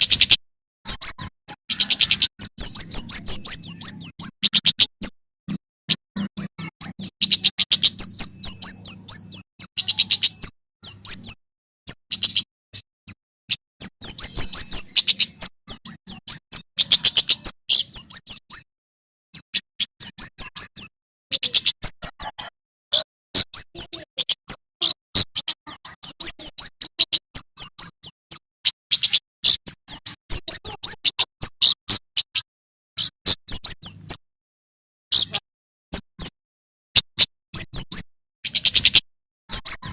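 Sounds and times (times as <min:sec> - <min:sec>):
bird singing sharp chipping notes: 0:00.0 - 0:18.7, 0:19.4 - 0:34.2, 0:37.0 - 0:39.9.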